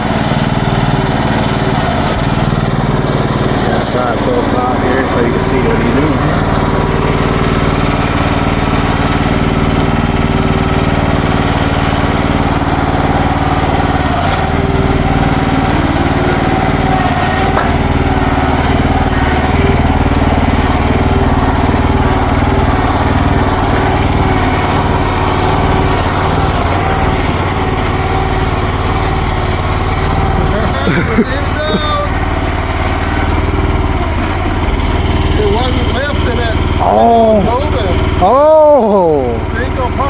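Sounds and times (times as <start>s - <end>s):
small gasoline engine running: 0.0s - 40.0s.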